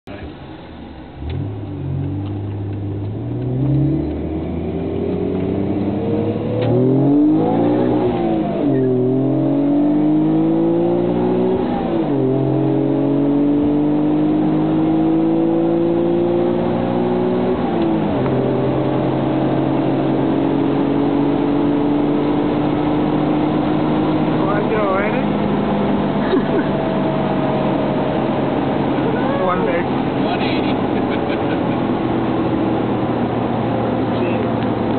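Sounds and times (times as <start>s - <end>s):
car engine accelerating: 0.0s - 34.9s.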